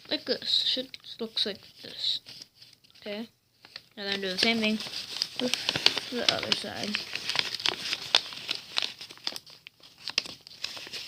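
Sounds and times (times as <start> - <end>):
paper crinkling and crackling: 0.0 - 11.0.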